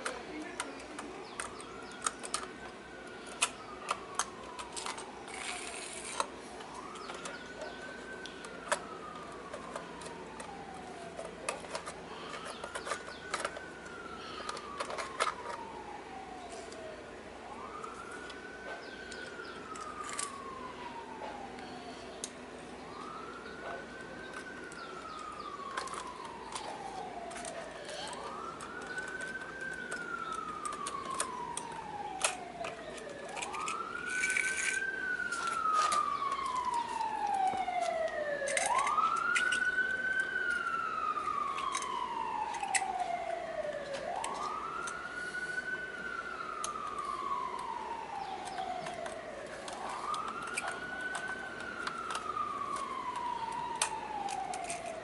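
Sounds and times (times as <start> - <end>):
emergency siren wailing: 0.0 - 55.0.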